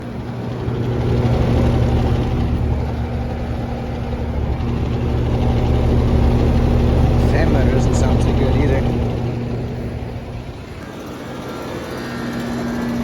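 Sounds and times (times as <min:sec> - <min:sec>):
fan rushing: 0:00.0 - 0:13.0
heat pump humming: 0:00.0 - 0:13.0.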